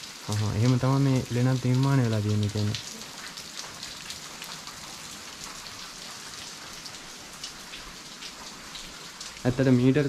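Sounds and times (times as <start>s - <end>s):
water dripping on rock: 0.0s - 9.9s.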